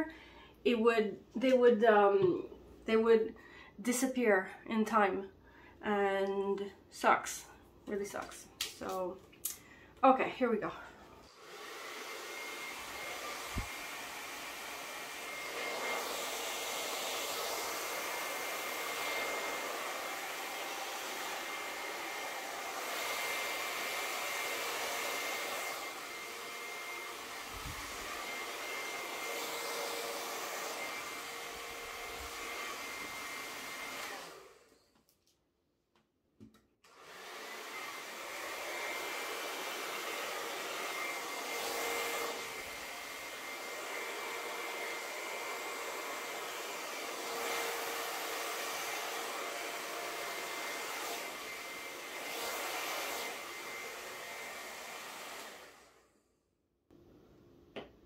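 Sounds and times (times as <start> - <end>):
hair dryer blowing: 6.3 - 34.9, 36.8 - 56.2.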